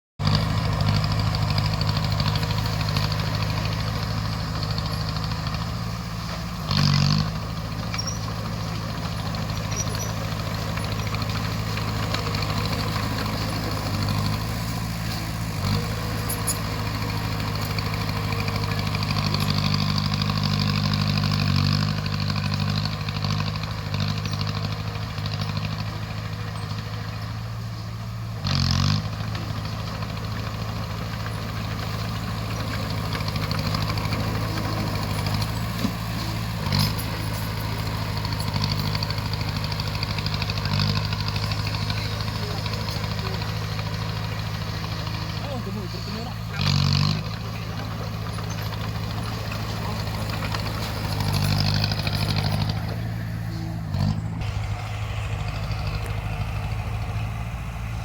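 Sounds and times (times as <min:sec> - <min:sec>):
bulldozer diesel engine running: 0:00.2 - 0:58.0.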